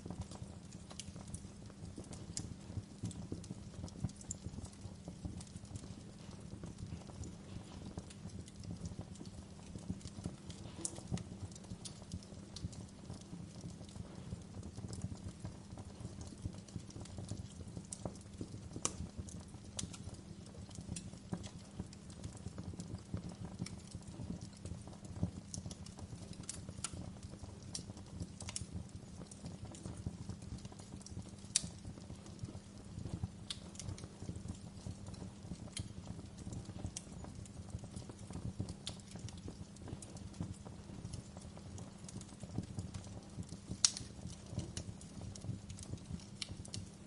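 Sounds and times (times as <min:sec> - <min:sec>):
fire crackling and popping: 0:00.0 - 0:47.0
rumble of flames: 0:00.0 - 0:47.0.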